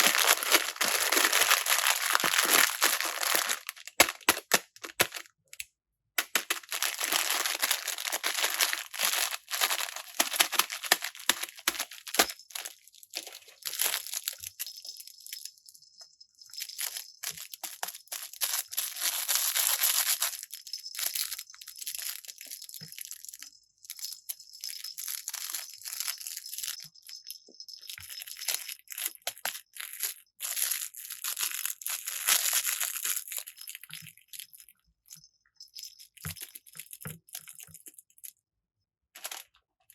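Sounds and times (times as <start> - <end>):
plastic packaging crinkling: 0.0 - 5.3, 6.2 - 15.4, 16.5 - 23.2, 24.3 - 34.7, 39.2 - 39.5.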